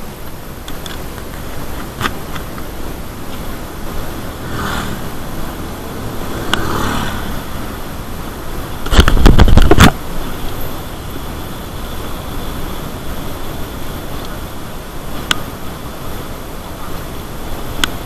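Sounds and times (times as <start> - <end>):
bike road rumble: 0.0 - 18.0
wind rush on microphone: 0.0 - 18.0.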